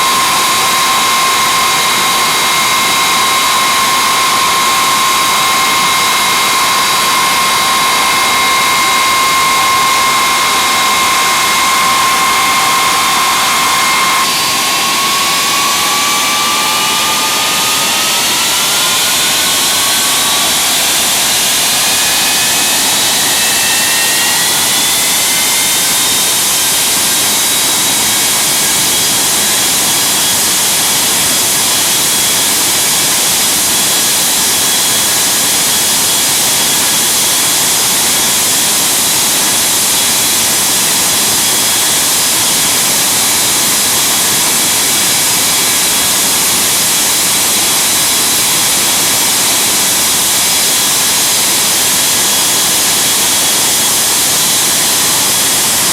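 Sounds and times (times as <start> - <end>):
jet engines whining: 0.0 - 55.9.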